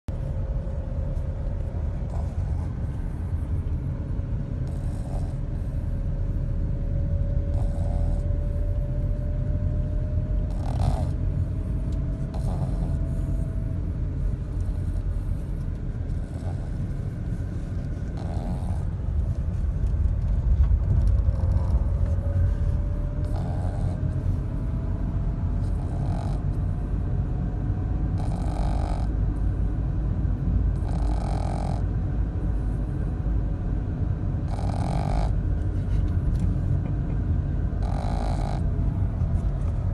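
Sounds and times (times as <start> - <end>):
dog snoring: 0.1 - 27.1, 27.9 - 29.8, 30.6 - 33.3, 34.4 - 36.6, 37.7 - 39.9.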